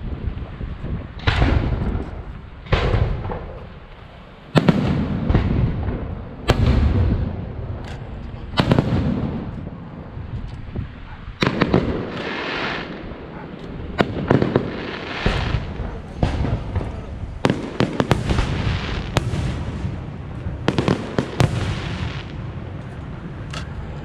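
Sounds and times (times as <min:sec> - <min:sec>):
fireworks hissing and crackle: 0:00.0 - 0:24.0
fireworks bangs: 0:01.2 - 0:23.6.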